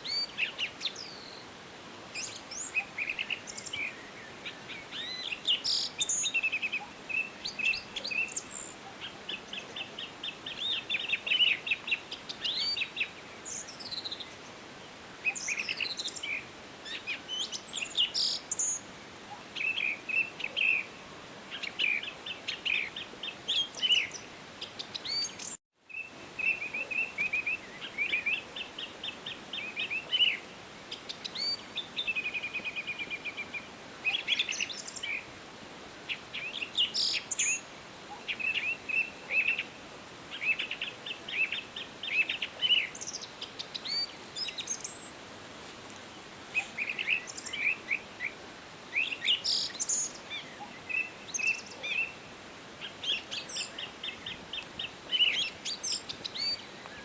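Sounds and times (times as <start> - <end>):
faint ambient hiss: 0.0 - 57.0
songbirds singing and chirping: 0.0 - 57.0.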